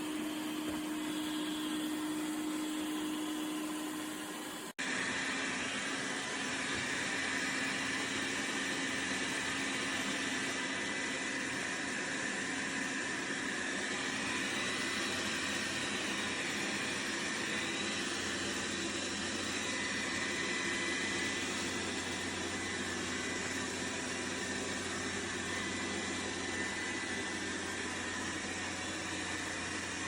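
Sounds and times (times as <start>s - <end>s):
robot vacuum cleaner whirring: 0.0s - 30.0s.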